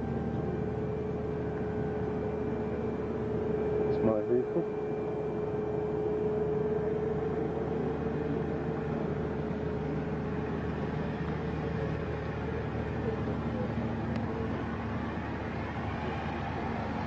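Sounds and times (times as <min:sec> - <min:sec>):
generator engine drone: 0:00.0 - 0:17.0
steady whining tone: 0:00.0 - 0:17.0.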